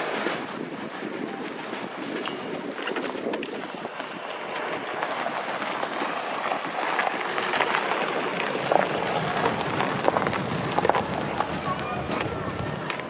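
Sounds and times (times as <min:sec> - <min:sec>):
train rolling on track: 0:00.0 - 0:13.0.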